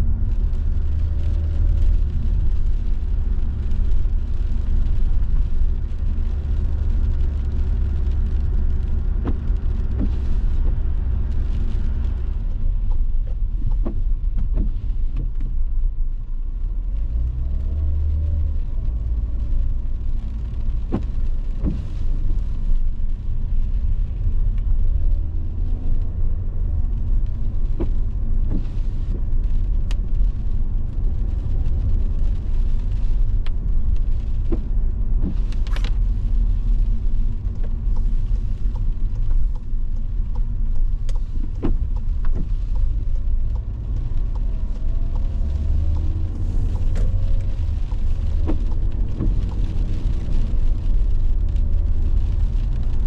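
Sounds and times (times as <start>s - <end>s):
car tyre and engine rumble: 0.0s - 53.0s
light ticks: 0.3s - 15.8s, 16.6s - 53.0s.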